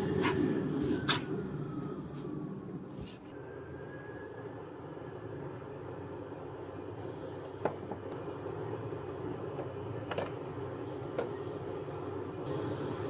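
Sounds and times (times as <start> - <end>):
low fan-like hum: 0.0 - 13.0.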